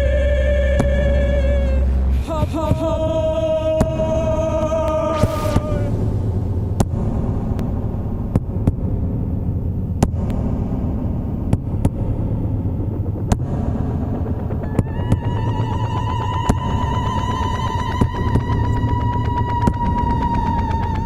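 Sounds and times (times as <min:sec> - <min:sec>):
low electronic drone rumble: 0:00.0 - 0:21.0.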